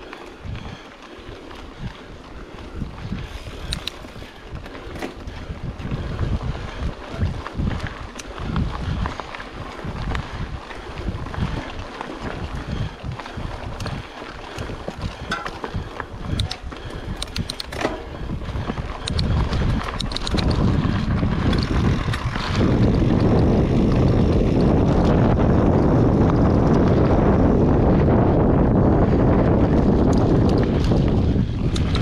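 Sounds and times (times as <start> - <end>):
bike clicks and rattles: 0.0 - 32.0
wind rushing over microphone: 0.0 - 32.0.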